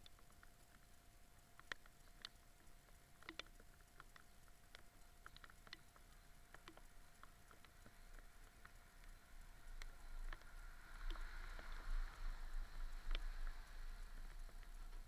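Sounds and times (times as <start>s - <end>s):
faint raindrops tapping: 0.0s - 15.0s.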